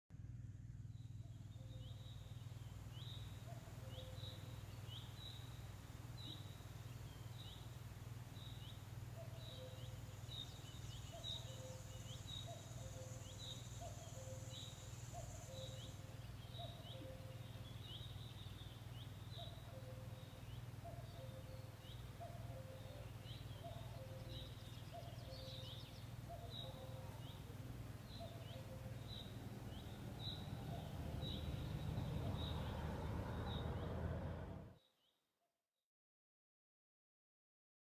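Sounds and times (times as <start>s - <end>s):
steady low hum: 0.1s - 34.7s.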